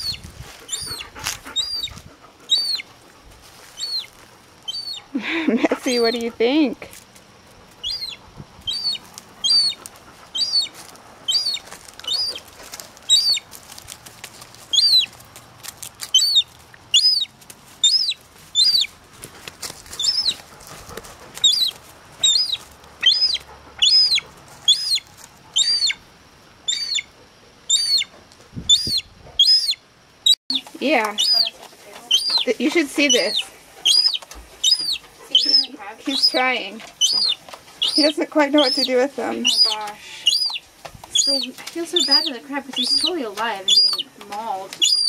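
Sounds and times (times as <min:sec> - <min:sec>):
gull chick peeping: 0:00.0 - 0:03.0, 0:03.6 - 0:05.1, 0:05.7 - 0:06.3, 0:07.8 - 0:13.5, 0:14.7 - 0:15.1, 0:16.0 - 0:19.0, 0:19.9 - 0:26.0, 0:26.6 - 0:45.0.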